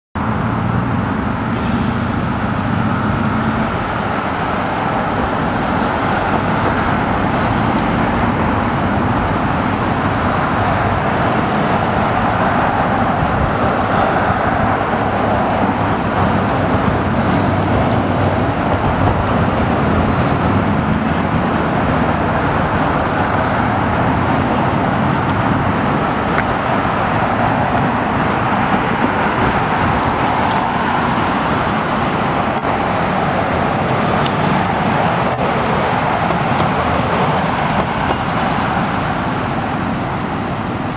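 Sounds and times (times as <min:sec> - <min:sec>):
engine and tyre noise on road: 0:00.2 - 0:40.9
vehicles driving past at speed: 0:00.2 - 0:40.9.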